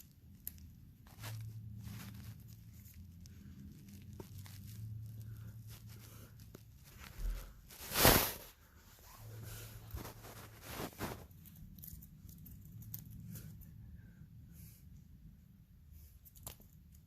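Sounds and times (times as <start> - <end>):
crinkly material rustling: 0.0 - 13.7.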